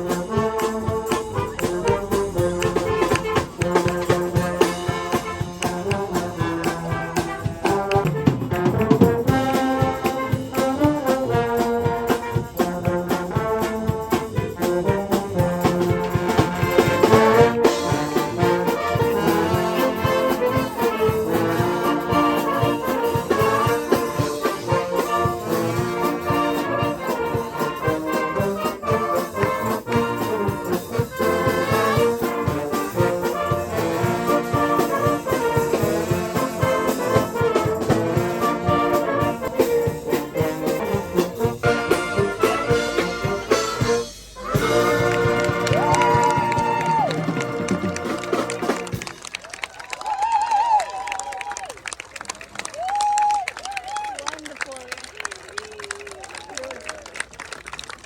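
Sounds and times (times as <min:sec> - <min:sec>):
brass band playing: 0:00.0 - 0:49.9.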